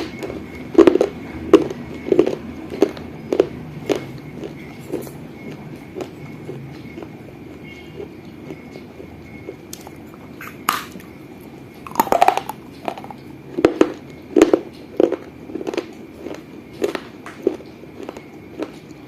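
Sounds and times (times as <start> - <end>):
crunching chews: 0.0 - 19.0.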